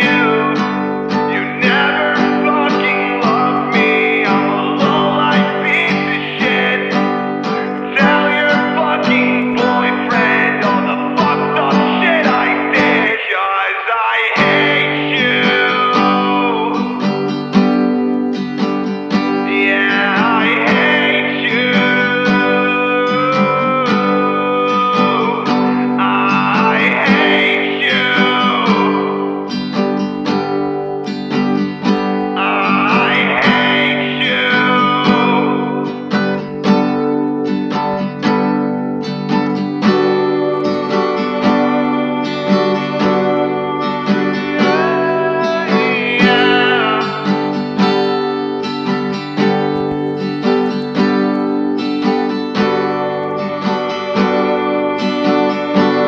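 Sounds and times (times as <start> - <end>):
indie rock guitars with pitch bends: 0.0 - 56.0.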